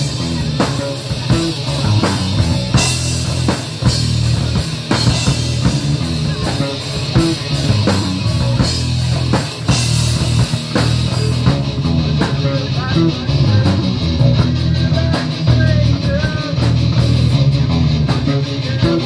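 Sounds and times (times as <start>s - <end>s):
drum kit beat: 0.0s - 19.0s
electric guitars: 0.0s - 19.0s
live rock band: 0.0s - 19.0s.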